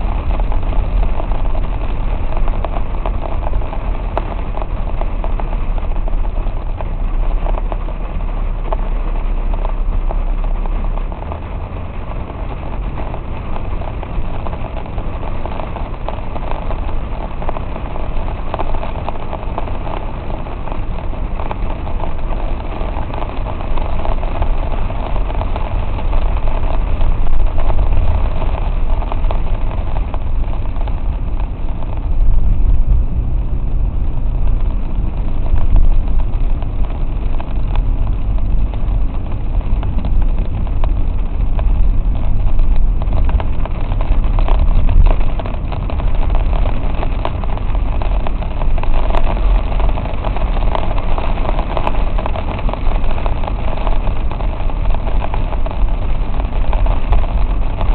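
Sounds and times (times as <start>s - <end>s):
car and road rumble: 0.0s - 57.9s
rain and water spraying on car: 0.0s - 57.9s.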